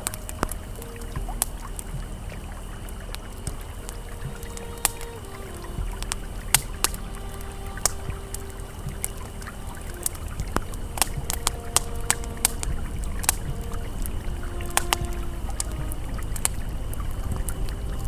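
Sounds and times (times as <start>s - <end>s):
campfire crackling and popping: 0.0s - 18.0s
river flowing: 0.0s - 18.0s.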